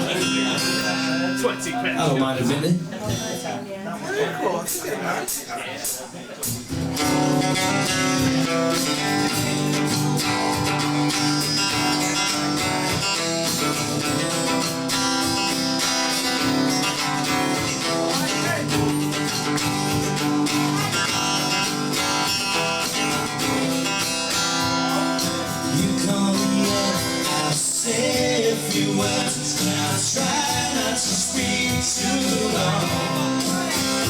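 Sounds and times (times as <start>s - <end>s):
acoustic guitar strumming: 0.0s - 3.5s, 6.4s - 34.0s.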